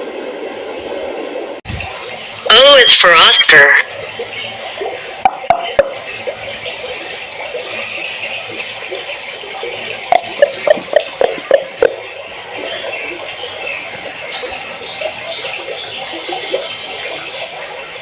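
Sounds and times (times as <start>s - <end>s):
steady water noise: 0.0s - 18.0s
water bubbling blips: 1.7s - 18.0s.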